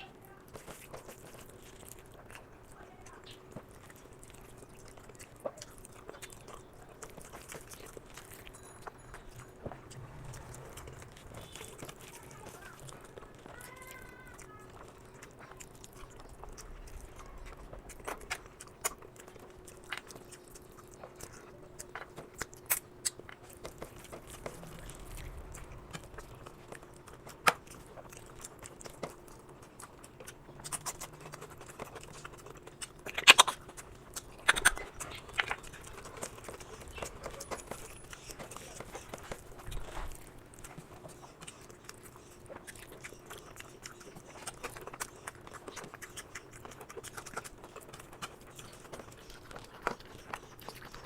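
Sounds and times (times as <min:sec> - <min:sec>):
faint steady hum: 0:00.0 - 0:51.0
person chewing with mouth smacks: 0:00.0 - 0:51.0.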